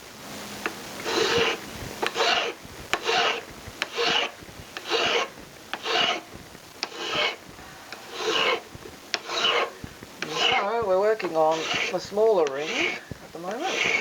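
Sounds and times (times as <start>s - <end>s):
file clicking on work: 0.6s - 14.0s
hand file rasping on metal: 1.0s - 14.0s.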